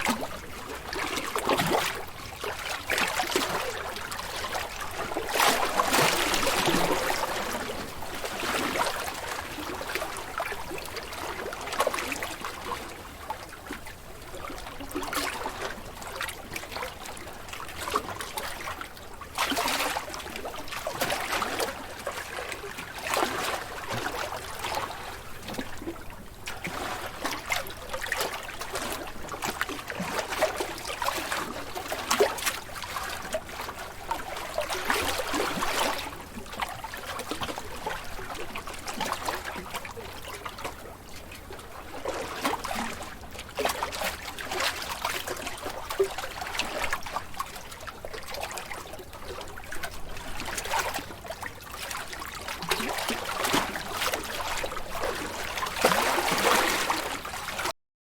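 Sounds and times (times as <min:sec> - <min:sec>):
small sea waves lapping: 0:00.0 - 0:57.7.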